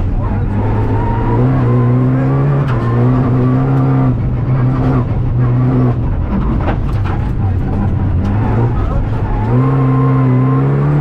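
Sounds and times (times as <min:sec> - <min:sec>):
car engine under hard load: 0:00.0 - 0:11.0
road noise: 0:00.0 - 0:11.0.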